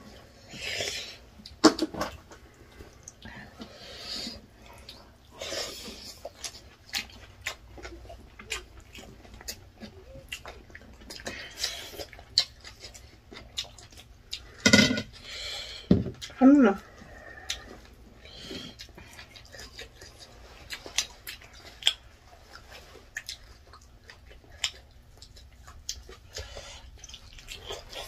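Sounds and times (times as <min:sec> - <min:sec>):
chewing and lip smacks: 0:00.8 - 0:03.7, 0:04.5 - 0:14.6, 0:16.2 - 0:28.0.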